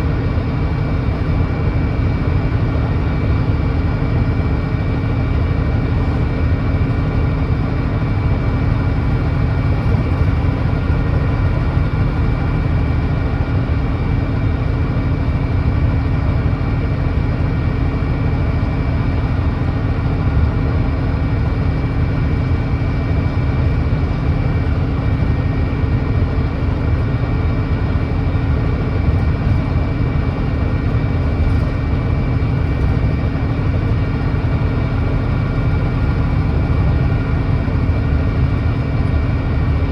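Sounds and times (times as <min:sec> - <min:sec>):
diesel bus engine droning: 0:00.0 - 0:39.9
high engine whine: 0:00.0 - 0:39.9.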